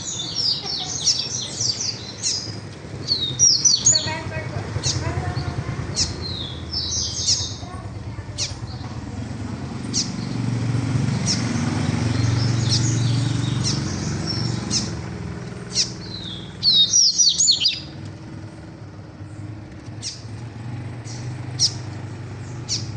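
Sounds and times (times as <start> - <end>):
birds chirping and singing: 0.0 - 22.9.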